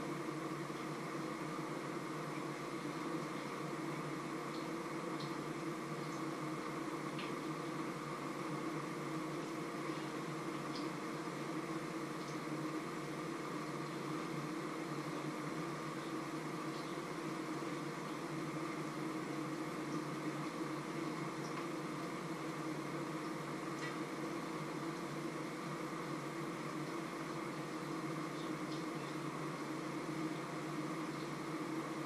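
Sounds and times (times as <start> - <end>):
fan-like mechanical hum: 0.0 - 32.0.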